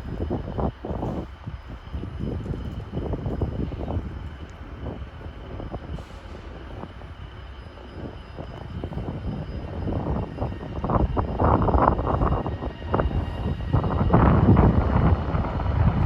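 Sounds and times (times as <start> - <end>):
electric train pulling away: 0.0 - 16.0.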